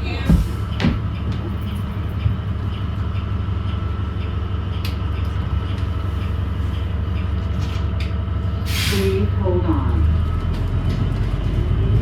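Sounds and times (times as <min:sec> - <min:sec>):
bus engine low hum: 0:00.0 - 0:12.0.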